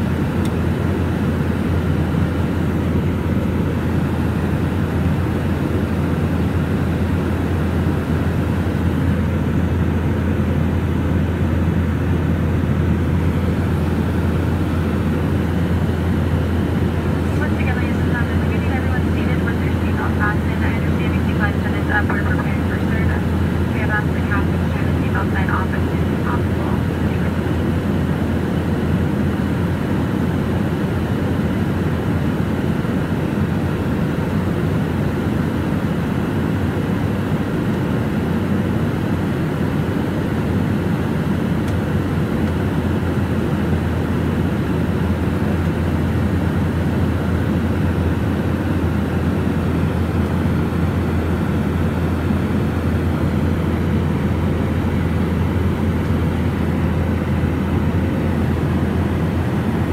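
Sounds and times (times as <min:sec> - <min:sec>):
aircraft cabin engine rumble: 0:00.0 - 0:59.9.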